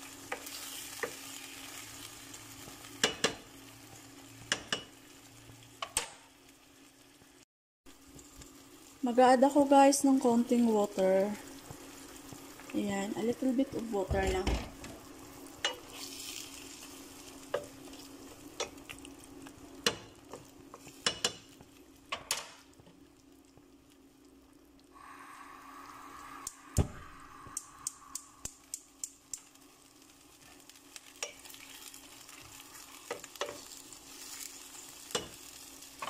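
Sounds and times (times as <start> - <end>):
stew sizzling in a pan: 0.0 - 36.0.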